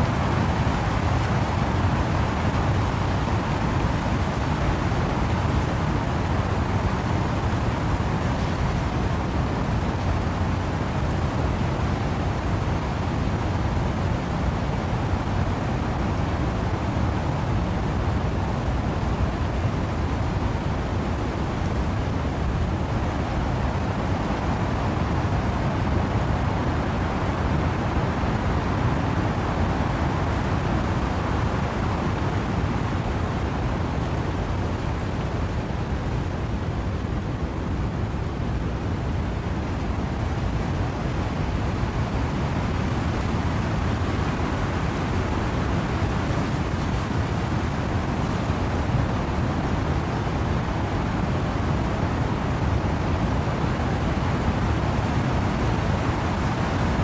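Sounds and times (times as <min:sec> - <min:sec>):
wind and rain in trees: 0:00.0 - 0:57.0.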